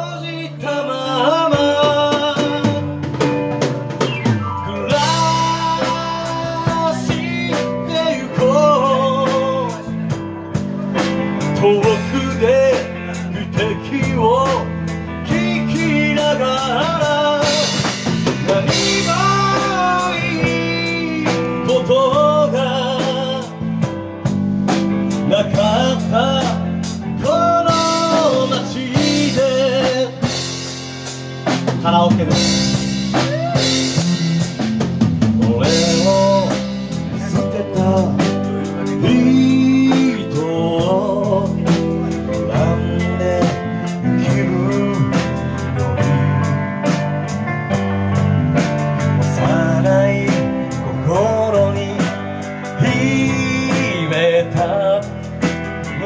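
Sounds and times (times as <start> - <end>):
drum kit: 0.0 - 56.0
electric guitar: 0.0 - 56.0
keyboards: 0.0 - 56.0
wavering lead melody: 0.3 - 52.0.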